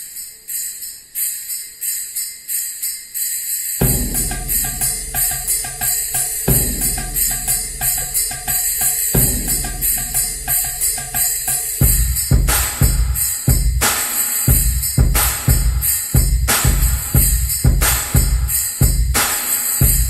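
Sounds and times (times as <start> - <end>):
jingling percussion: 0.0 - 20.0
drum beat and bass: 3.8 - 20.0.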